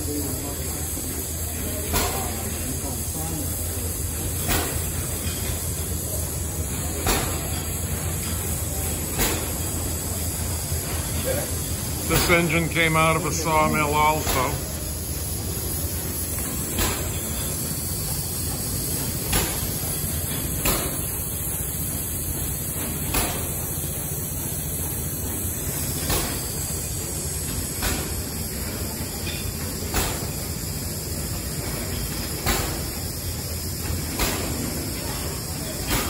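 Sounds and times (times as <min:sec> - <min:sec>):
steam engine hiss and rumble: 0:00.0 - 0:36.0.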